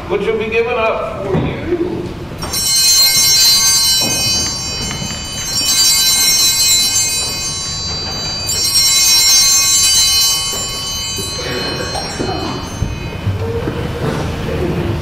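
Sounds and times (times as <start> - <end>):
small altar bells ringing: 2.4 - 15.0.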